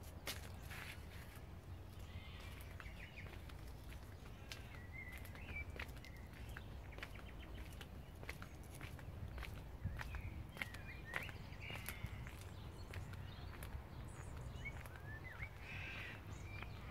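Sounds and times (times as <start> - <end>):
bird chirping: 0.5 - 16.9.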